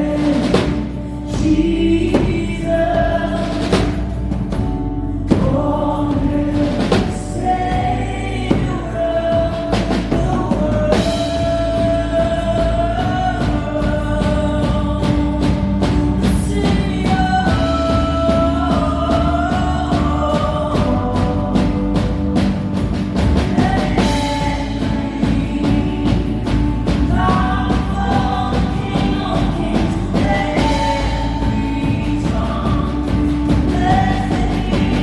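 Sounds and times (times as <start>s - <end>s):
person singing: 0.0s - 4.2s, 5.1s - 35.0s
drum beat: 0.0s - 35.0s
live rock band playing: 0.0s - 35.0s.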